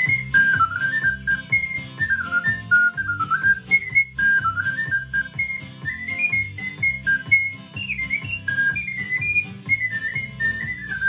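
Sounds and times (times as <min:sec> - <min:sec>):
low instrumental accompaniment: 0:00.0 - 0:11.0
ocarina melody: 0:00.0 - 0:11.0.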